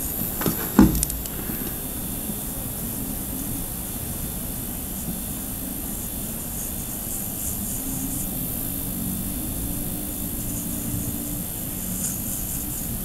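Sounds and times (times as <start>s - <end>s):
electric nail drill humming: 0.0s - 13.0s.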